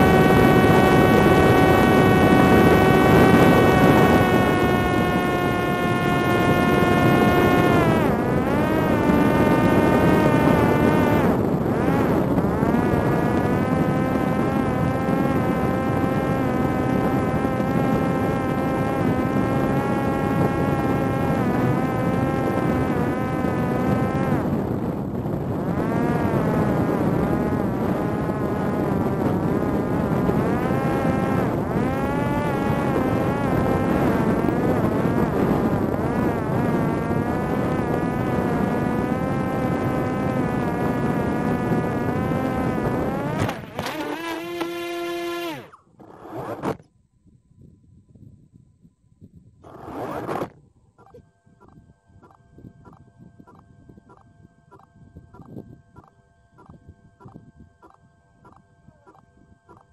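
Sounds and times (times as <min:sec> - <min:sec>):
drone motor and propeller whining: 0:00.0 - 0:47.0, 0:49.6 - 0:59.9.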